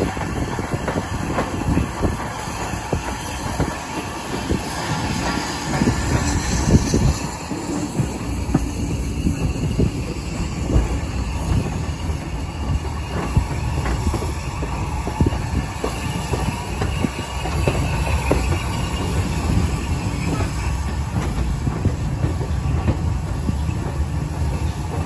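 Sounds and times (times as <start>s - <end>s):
knocks and clicks from track: 0.0s - 25.0s
train wheels rumbling on rails: 0.0s - 25.0s.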